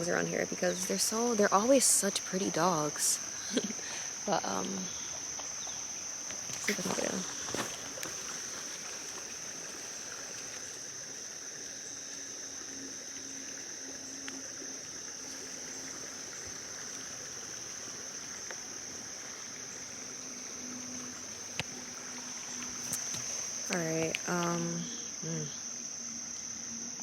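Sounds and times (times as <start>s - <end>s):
insects chirring: 0.0s - 27.0s
steady hiss: 0.0s - 27.0s.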